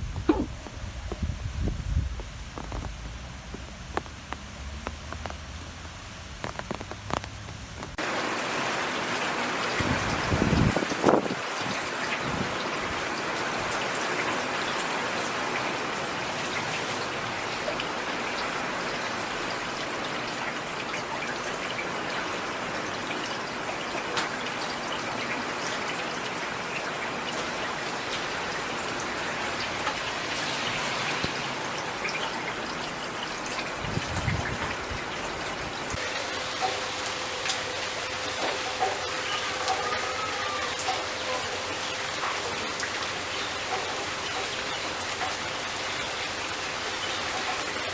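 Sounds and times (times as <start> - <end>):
steady rain hiss: 0.0 - 47.9
raindrops ticking: 2.1 - 47.9.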